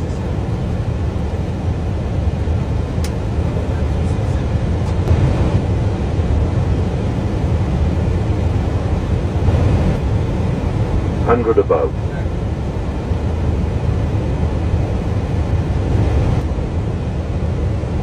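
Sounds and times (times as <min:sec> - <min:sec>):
low rumble of airflow and engines: 0:00.0 - 0:18.0.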